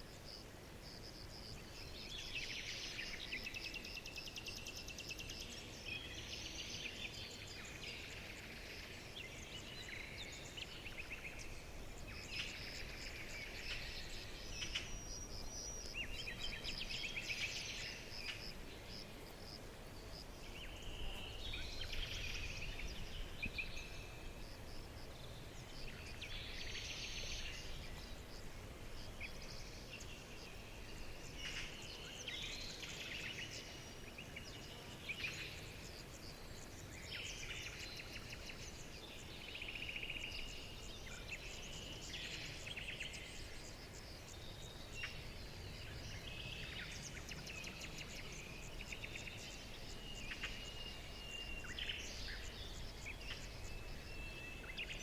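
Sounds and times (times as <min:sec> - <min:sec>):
low background hiss: 0:00.0 - 0:55.0
songbirds chirping and trilling: 0:00.0 - 0:55.0.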